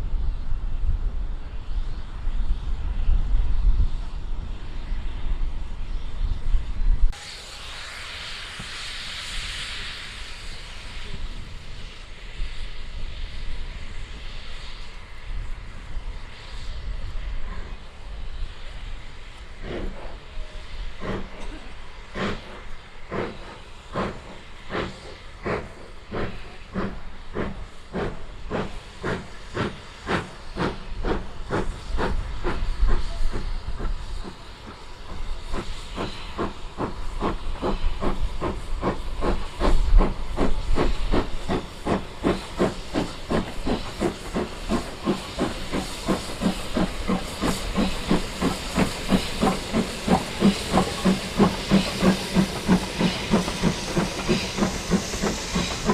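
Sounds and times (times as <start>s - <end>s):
hiss of steam: 0.0s - 55.9s
steam locomotive chuffing: 0.0s - 55.9s.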